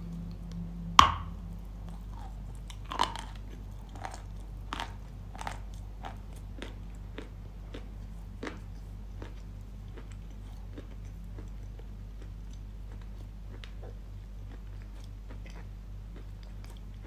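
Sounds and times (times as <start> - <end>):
crunchy chewing: 0.1 - 17.0.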